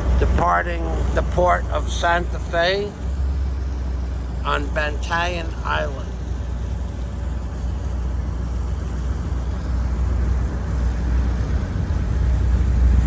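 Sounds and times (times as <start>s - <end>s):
ferry engines rumbling: 0.0s - 13.0s
noisy hiss: 0.0s - 13.0s.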